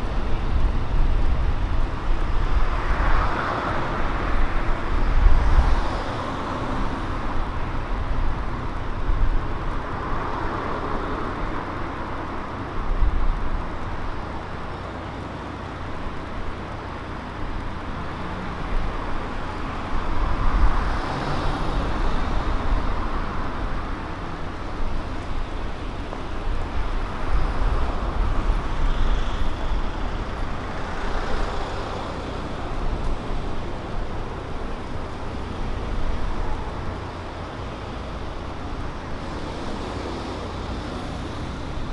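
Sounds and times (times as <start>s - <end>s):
low traffic rumble: 0.0s - 41.9s
vehicles passing: 0.0s - 41.9s.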